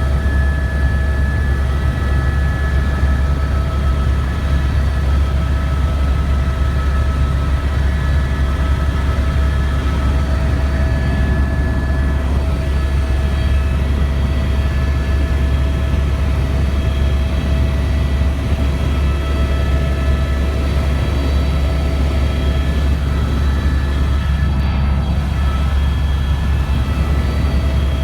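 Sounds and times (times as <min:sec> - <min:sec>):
helicopter drone: 0:00.0 - 0:28.0
whining tones: 0:00.0 - 0:28.0.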